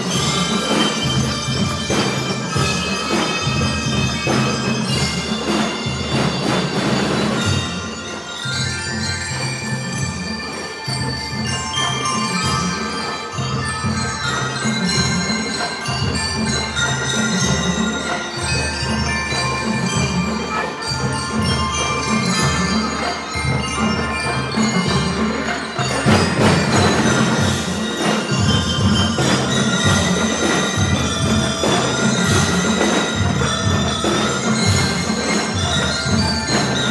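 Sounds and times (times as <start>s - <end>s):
marching drum beat: 0.0s - 8.2s, 9.0s - 36.9s
bell lyres playing melody: 0.0s - 36.9s.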